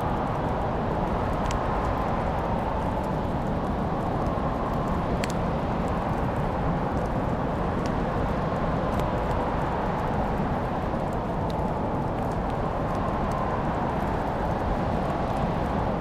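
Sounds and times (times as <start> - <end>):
fireplace fire rumbling: 0.0 - 16.0.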